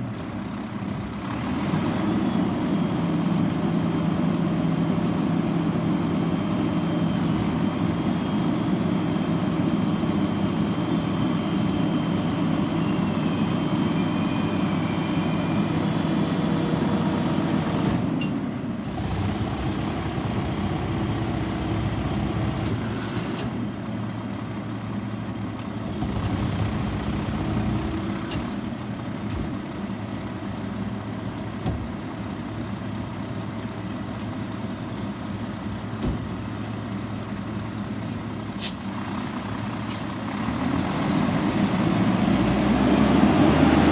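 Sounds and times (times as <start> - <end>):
garbage truck diesel engine: 0.0 - 43.9.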